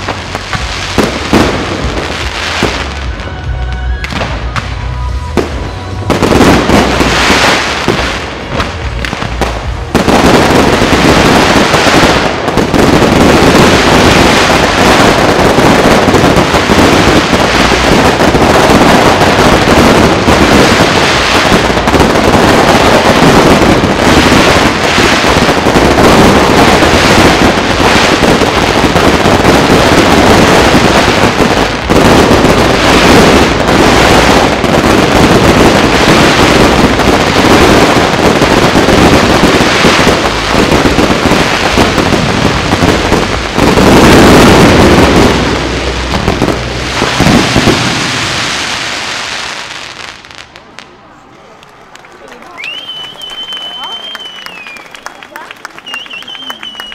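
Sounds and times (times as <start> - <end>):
fireworks bangs and crackle: 0.0 - 56.9.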